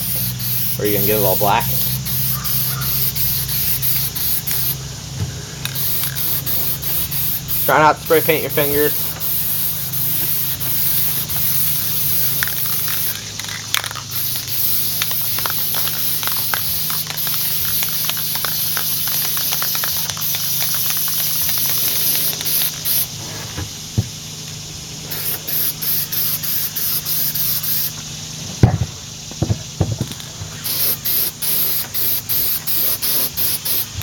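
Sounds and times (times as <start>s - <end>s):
aerosol spray can hissing: 0.0s - 4.8s, 5.6s - 23.8s, 25.0s - 28.1s, 30.1s - 34.0s.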